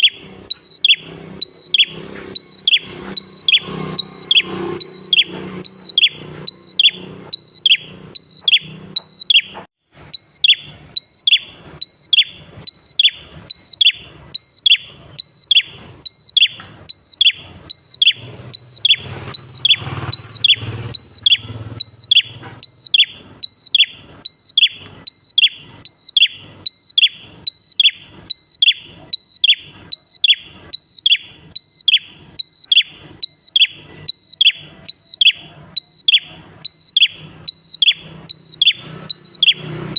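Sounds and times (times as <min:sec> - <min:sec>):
bird singing repeated high notes: 0:00.0 - 0:39.9.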